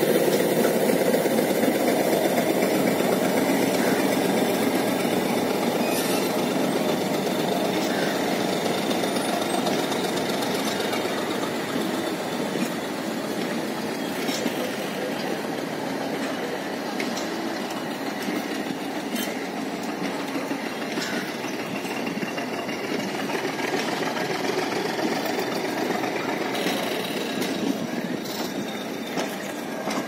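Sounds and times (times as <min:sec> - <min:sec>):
train coaches rumbling past: 0:00.0 - 0:30.0.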